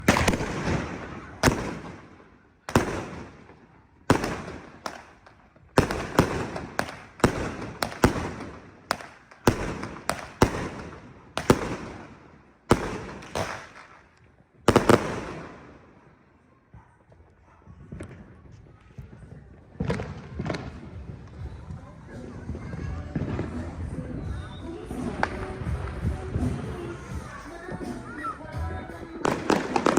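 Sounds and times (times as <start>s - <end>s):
fireworks banging with echoes: 0.0s - 29.9s.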